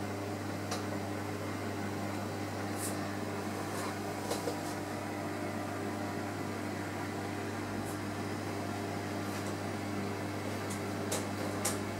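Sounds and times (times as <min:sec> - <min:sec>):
aquarium pumps humming: 0:00.0 - 0:11.9.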